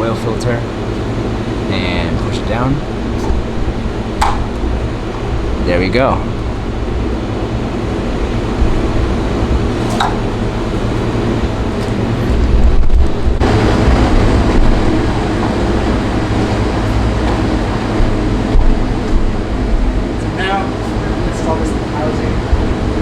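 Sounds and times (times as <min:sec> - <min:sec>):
low mechanical hum and rumble: 0:00.0 - 0:23.0.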